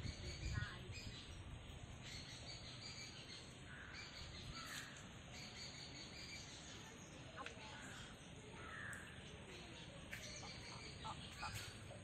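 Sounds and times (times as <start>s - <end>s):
bird chirps: 2.0s - 12.0s.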